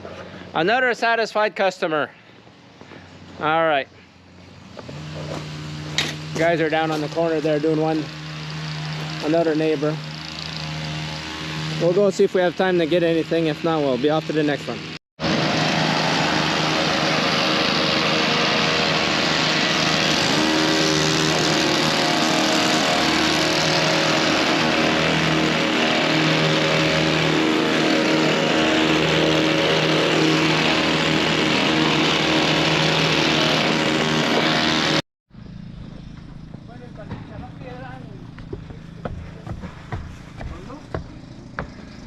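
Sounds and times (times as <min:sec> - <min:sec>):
engine running: 0:02.1 - 0:42.0.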